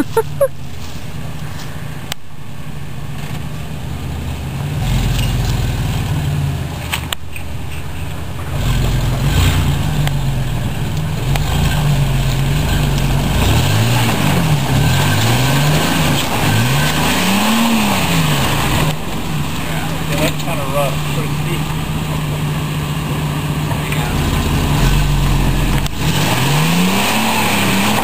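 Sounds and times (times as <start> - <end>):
truck engine revving: 3.7 - 28.0.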